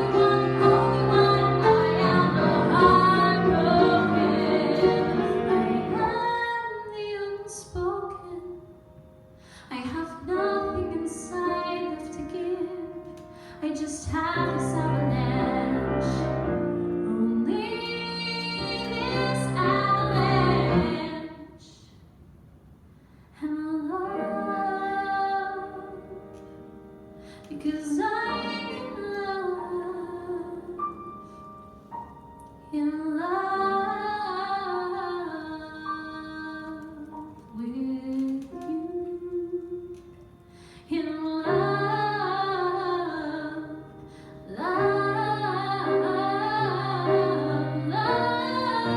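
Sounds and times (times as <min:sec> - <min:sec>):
woman singing a ballad: 0:00.0 - 0:08.7, 0:09.6 - 0:16.4, 0:17.0 - 0:21.8, 0:23.4 - 0:26.2, 0:27.4 - 0:30.9, 0:32.5 - 0:40.2, 0:40.8 - 0:48.9
piano accompaniment: 0:00.0 - 0:21.6, 0:23.8 - 0:48.9.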